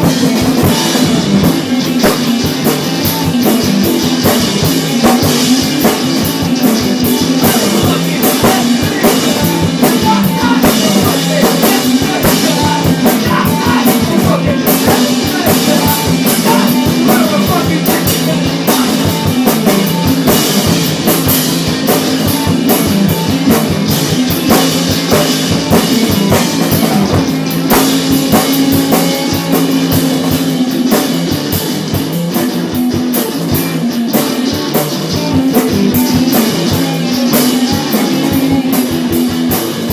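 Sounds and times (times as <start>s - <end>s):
bass line: 0.0s - 39.9s
rock band playing: 0.0s - 39.9s.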